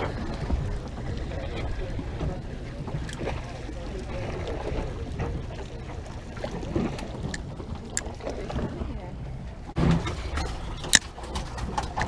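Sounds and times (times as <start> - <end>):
boat engine rumble: 0.0 - 12.0
wind on microphone: 0.0 - 12.0.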